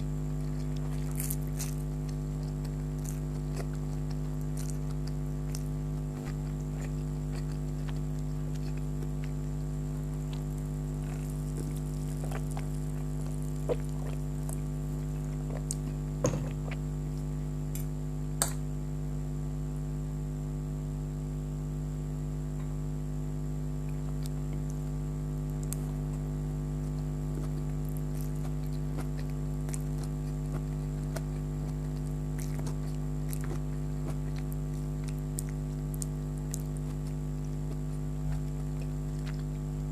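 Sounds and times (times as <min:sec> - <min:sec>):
steady electrical hum: 0:00.0 - 0:39.9
chewing and mouth sounds: 0:00.1 - 0:18.0, 0:23.8 - 0:39.9.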